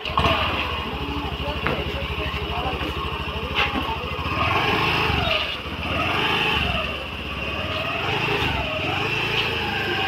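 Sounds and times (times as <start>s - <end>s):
scooter engine revving: 0.0s - 10.0s.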